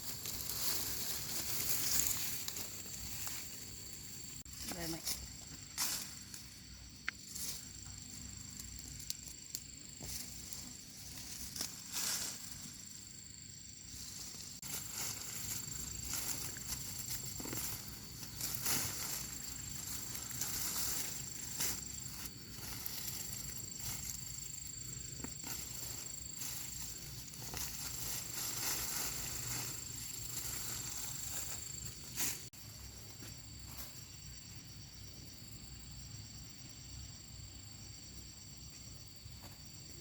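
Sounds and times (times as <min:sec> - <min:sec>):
dry foliage rustling and crackling: 0:00.0 - 0:34.2
high-pitched insect drone: 0:00.0 - 0:40.0.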